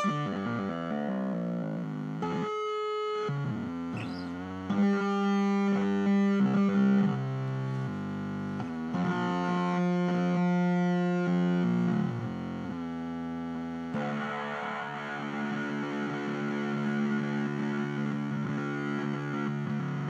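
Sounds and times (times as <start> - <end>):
distorted electric guitar notes: 0.0 - 20.0.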